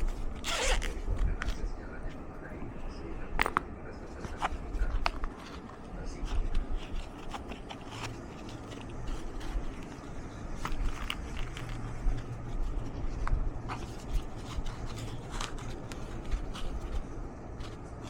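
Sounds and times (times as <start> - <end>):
packaging clicks and scrapes: 0.0 - 2.6, 3.4 - 18.0
steady low rumble: 0.0 - 18.0.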